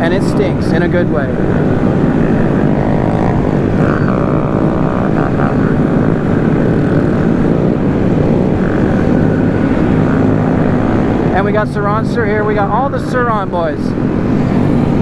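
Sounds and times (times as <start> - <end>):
small motorbike engines revving: 0.0 - 15.0.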